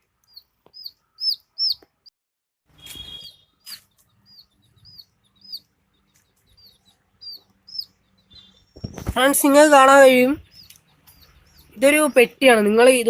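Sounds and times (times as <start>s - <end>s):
chicks peeping: 0.2s - 2.1s, 3.0s - 13.0s.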